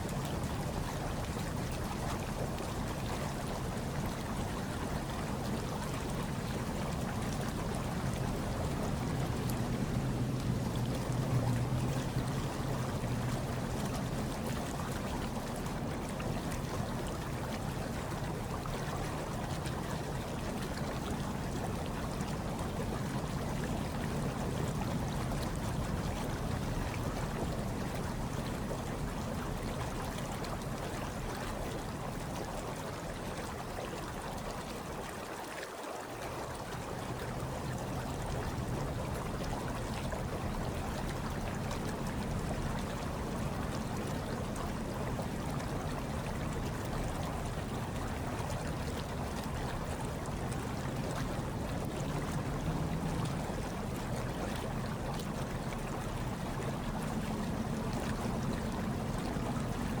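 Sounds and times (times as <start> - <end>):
hot tub water churning and bubbling: 0.0 - 60.0.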